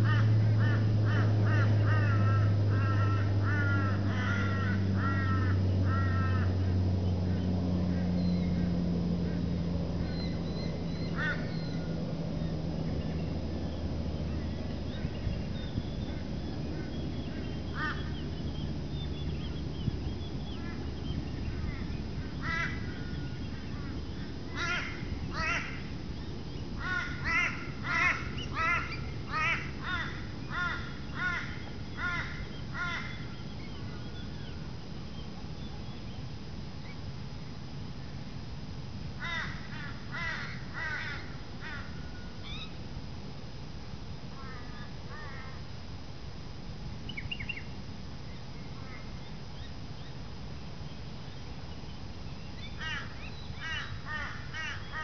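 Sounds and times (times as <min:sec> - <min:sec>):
bird calling: 0:00.0 - 0:37.0, 0:39.2 - 0:42.8, 0:47.0 - 0:50.2, 0:50.8 - 0:55.0.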